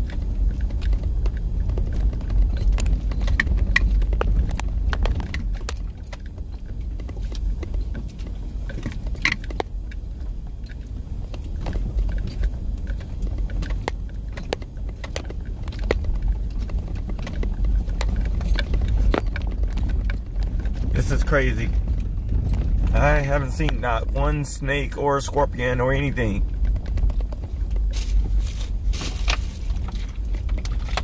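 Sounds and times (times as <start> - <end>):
car engine and tyres rumbling: 0.0 - 31.0
light clicks and rattles: 0.0 - 31.0.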